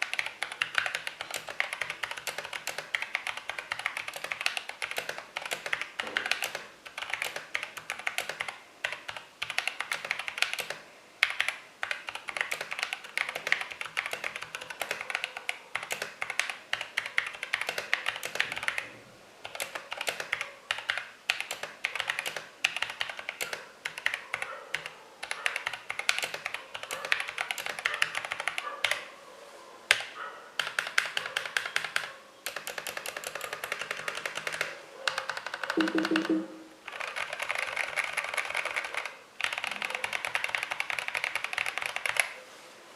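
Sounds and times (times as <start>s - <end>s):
mechanical keyboard typing: 0.0s - 29.0s, 29.9s - 42.4s.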